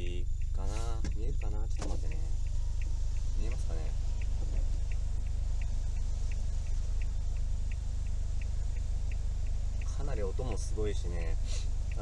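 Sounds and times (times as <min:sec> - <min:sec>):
light regular ticking: 0:00.0 - 0:12.0.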